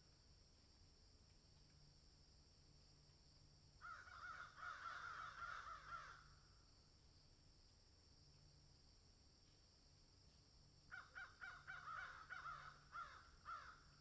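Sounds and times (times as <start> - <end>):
faint outdoor background hiss: 0.0 - 14.0.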